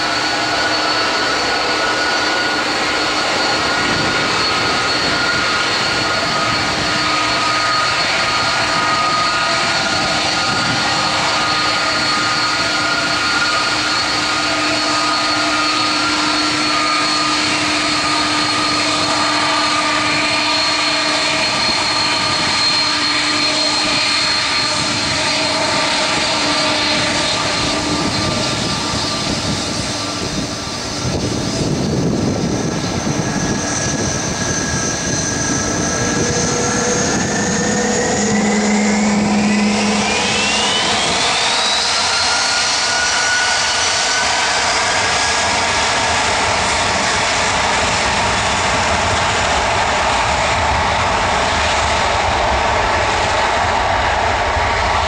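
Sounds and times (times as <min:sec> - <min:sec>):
jet engine whine: 0:00.0 - 0:55.0.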